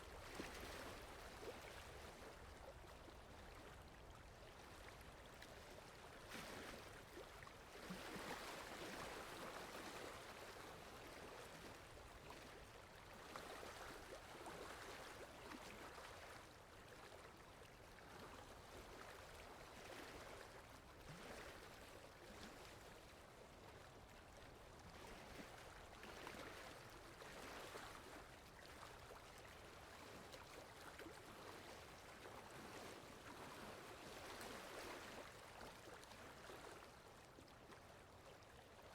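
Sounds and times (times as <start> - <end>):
water lapping at lake edge: 0.0 - 38.9.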